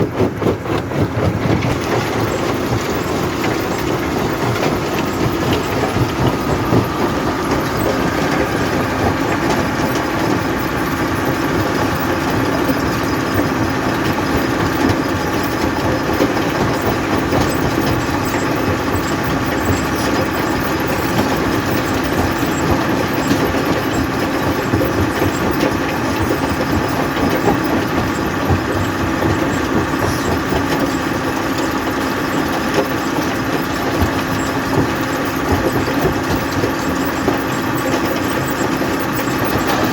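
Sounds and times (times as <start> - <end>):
jaw crusher machine hum: 0.0 - 39.9.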